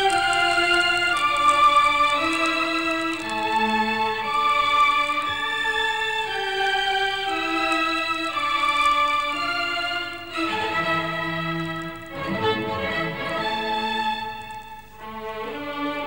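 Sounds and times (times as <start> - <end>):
organ-like keyboard music: 0.0 - 16.0.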